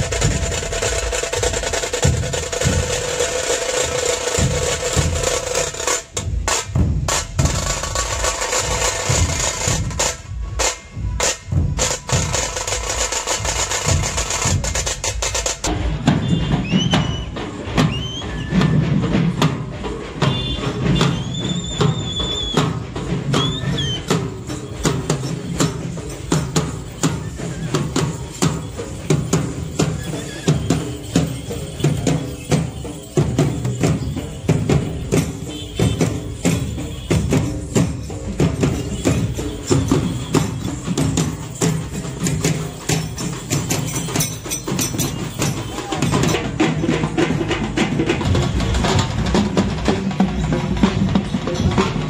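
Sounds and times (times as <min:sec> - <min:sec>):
barrel drums beaten with sticks: 0:00.0 - 0:52.0.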